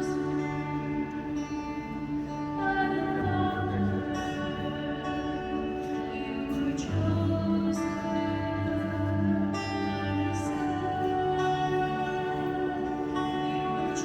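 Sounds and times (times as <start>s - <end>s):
person singing a hymn: 0.0s - 14.0s.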